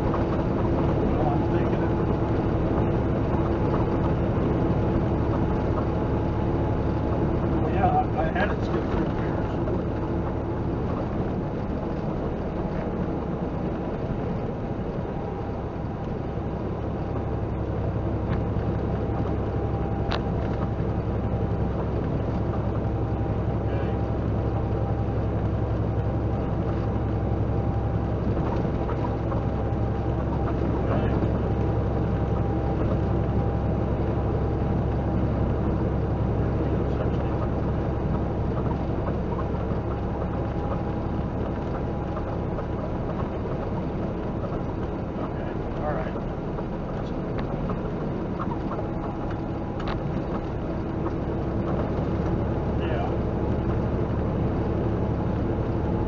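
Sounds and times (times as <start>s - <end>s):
truck engine and road noise: 0.0s - 56.0s.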